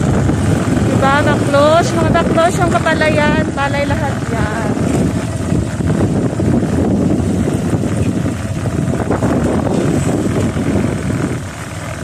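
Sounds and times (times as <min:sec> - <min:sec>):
vehicle rumble: 0:00.0 - 0:12.0
wind buffeting microphone: 0:00.0 - 0:12.0.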